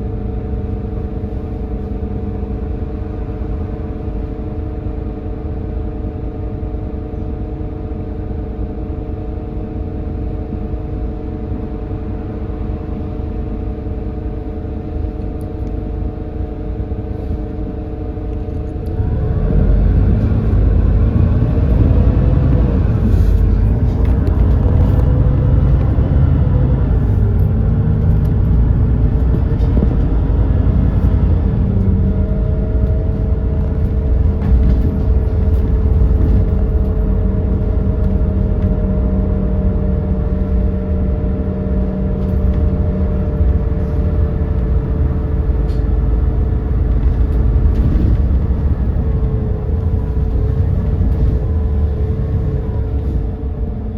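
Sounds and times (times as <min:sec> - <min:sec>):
bus engine droning: 0:00.0 - 0:53.9.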